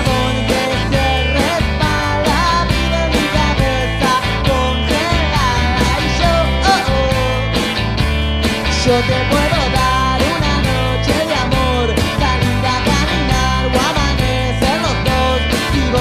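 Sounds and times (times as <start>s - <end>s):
guitar: 0.0s - 16.0s
rock band playing: 0.0s - 16.0s.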